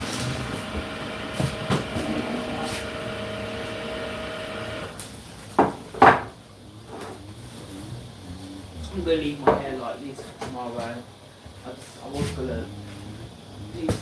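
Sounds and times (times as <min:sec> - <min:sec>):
dishwasher humming: 0:00.0 - 0:14.0.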